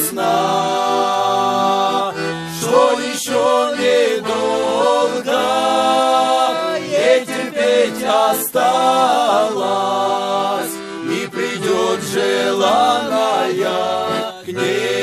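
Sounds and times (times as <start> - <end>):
accordion: 0.0 - 15.0
men singing in harmony: 0.0 - 15.0.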